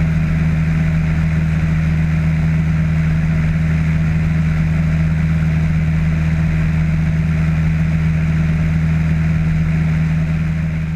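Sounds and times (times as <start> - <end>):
light aircraft engine droning: 0.0 - 10.9.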